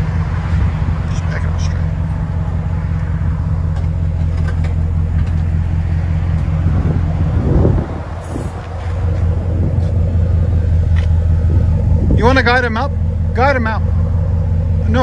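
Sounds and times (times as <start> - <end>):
truck engine idling rumble: 0.0 - 15.0.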